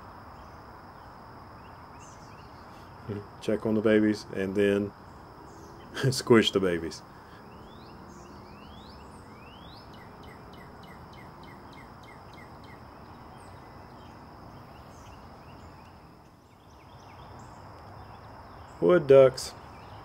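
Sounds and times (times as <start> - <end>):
birds calling: 0.0 - 20.0
insect trill: 0.0 - 20.0.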